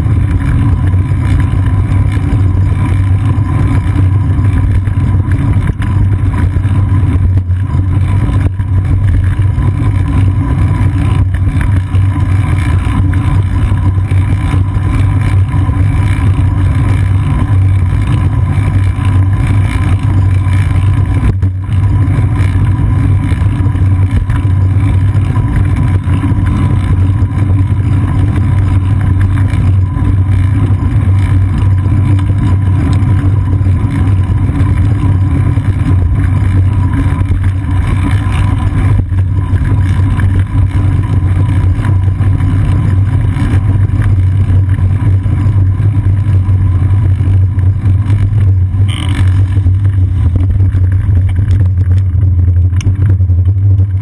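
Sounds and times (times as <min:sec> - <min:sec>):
road vibration rumble: 0:00.0 - 0:54.0.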